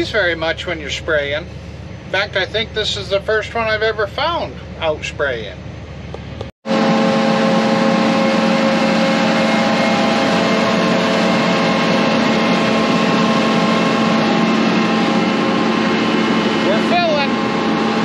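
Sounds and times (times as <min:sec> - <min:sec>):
engine humming steadily: 0:00.0 - 0:18.0.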